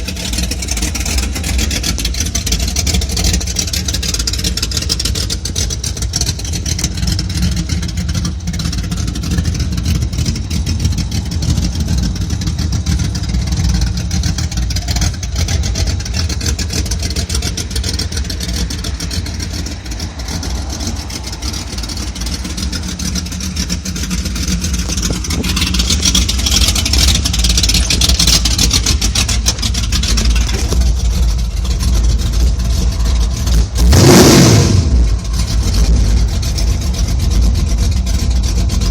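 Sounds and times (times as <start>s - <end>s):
pickup truck engine rumbling: 0.0s - 38.9s.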